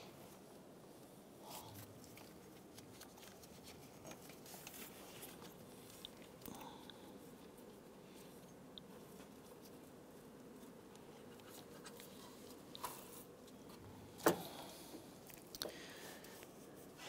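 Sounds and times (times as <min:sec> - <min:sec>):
rubbing and handling sounds: 0:00.0 - 0:06.4, 0:07.0 - 0:13.8, 0:15.4 - 0:17.0.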